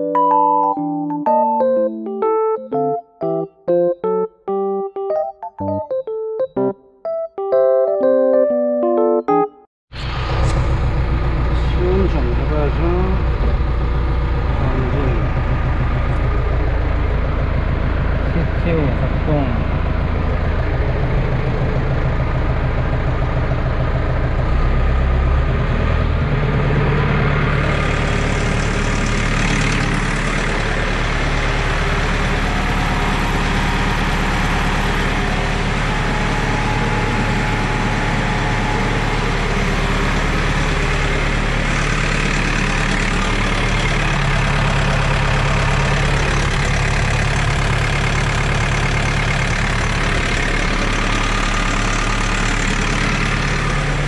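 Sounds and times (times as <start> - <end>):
tractor diesel engine running: 9.9 - 54.0.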